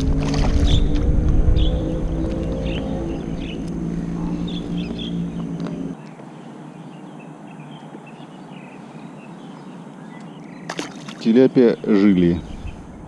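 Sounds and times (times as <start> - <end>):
low steady hum with tones: 0.0 - 10.8
small birds chirping: 0.0 - 13.0.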